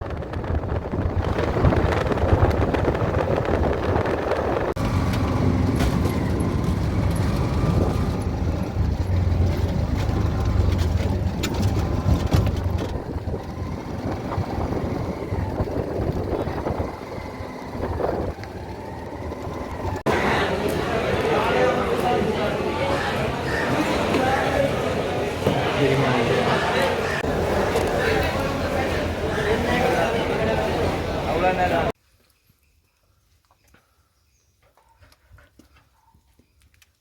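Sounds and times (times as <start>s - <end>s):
engine rumbling: 0.0s - 32.0s
outdoor noise: 0.0s - 37.0s.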